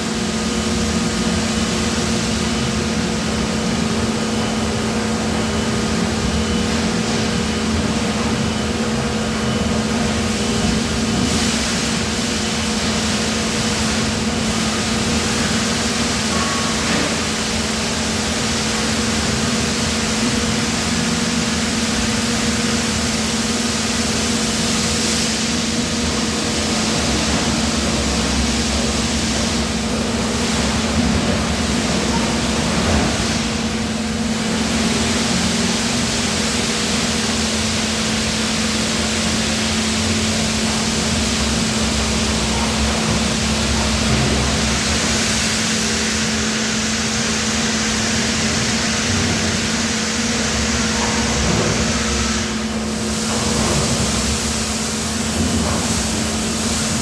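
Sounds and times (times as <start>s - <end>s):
industrial machinery humming: 0.0s - 57.0s.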